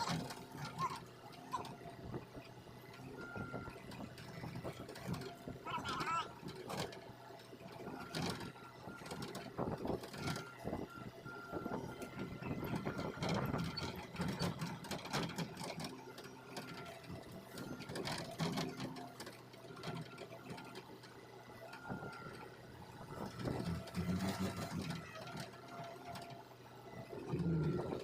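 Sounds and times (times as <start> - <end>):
excavator engine running: 0.0 - 28.0.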